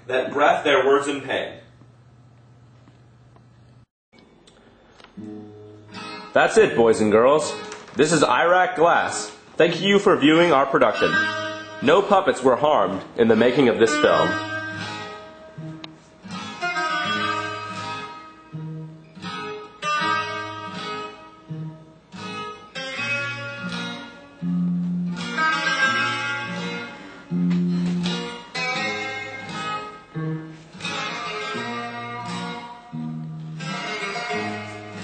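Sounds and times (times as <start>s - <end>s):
guitar music: 4.4s - 35.0s.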